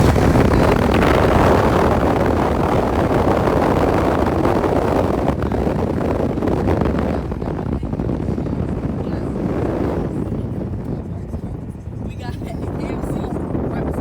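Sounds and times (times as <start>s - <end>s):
road and tyre noise: 0.0s - 14.0s
wind through car window: 0.0s - 14.0s.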